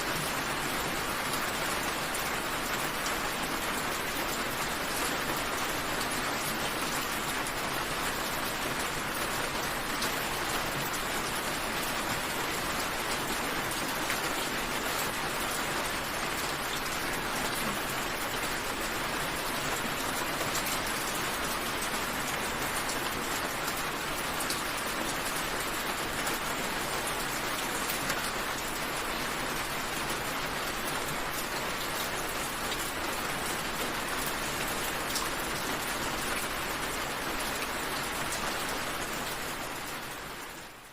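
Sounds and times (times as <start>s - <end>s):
rain patters on leaves: 0.0s - 40.9s
steady rain hiss: 0.0s - 40.9s.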